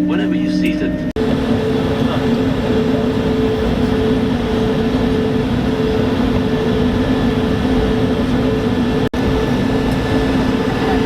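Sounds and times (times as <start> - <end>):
airliner cabin hum: 0.0 - 11.0
low droning tones: 0.0 - 11.0.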